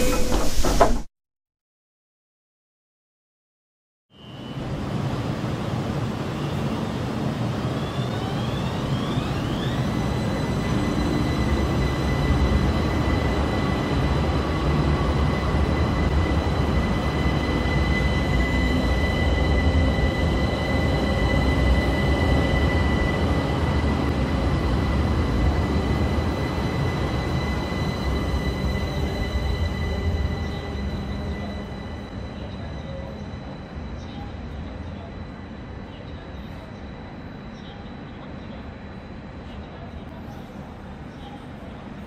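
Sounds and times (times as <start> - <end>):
tram electric whine: 4.2 - 42.0
tram wheels rumbling: 4.6 - 42.0.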